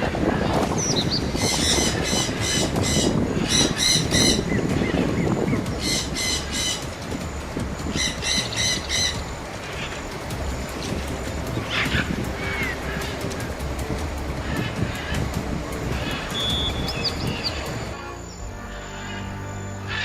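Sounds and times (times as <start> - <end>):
bird harsh calls: 0.0 - 13.6, 14.3 - 20.0
low rumble: 0.0 - 20.0.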